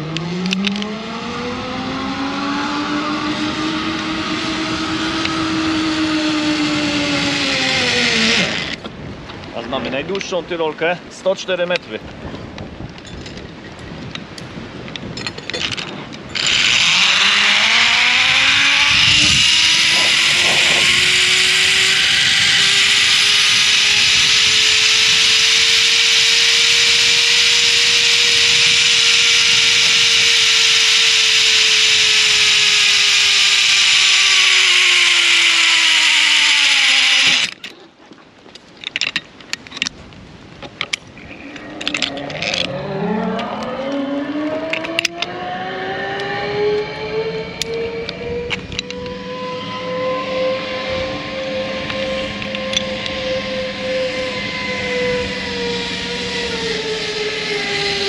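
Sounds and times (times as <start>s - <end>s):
zipline pulley whirring: 0.0s - 9.0s, 15.1s - 37.8s, 40.9s - 58.0s.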